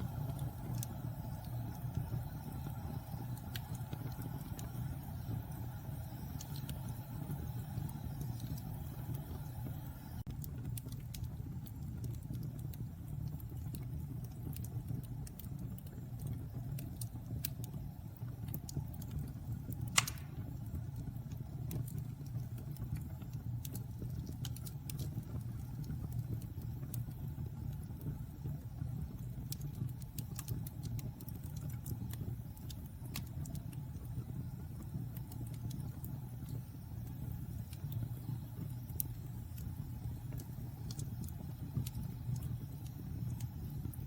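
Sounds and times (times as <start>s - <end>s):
fire crackling and popping: 0.0s - 44.0s
wood fire rumbling: 0.0s - 44.0s.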